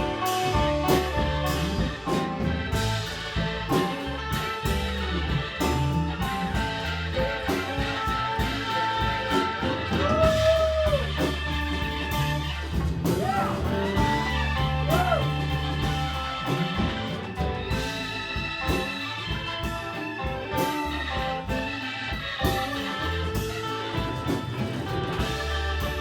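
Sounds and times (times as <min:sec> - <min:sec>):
electric guitar bending notes: 0:00.0 - 0:26.0
live blues band: 0:00.0 - 0:26.0.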